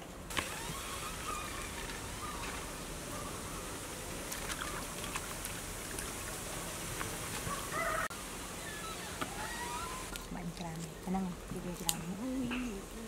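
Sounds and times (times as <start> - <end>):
birds chirping faintly: 0.4 - 13.0.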